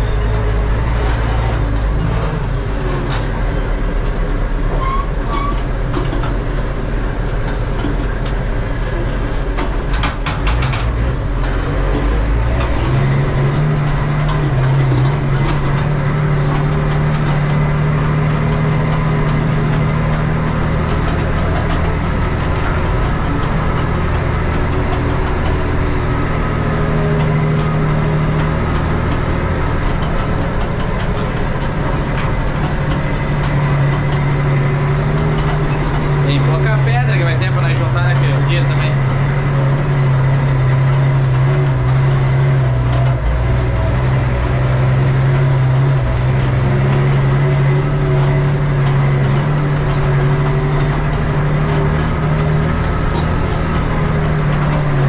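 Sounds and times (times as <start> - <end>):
tractor diesel engine running: 0.0 - 55.0
clattering knocks: 5.1 - 55.0.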